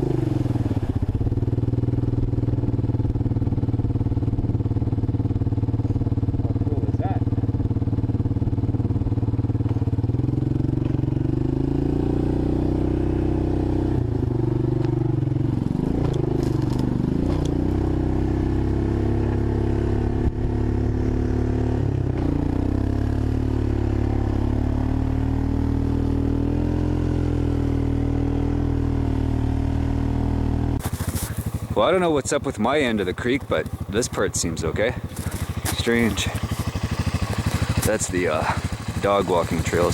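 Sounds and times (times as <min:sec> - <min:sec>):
three-wheeler engine revving: 0:00.0 - 0:39.9.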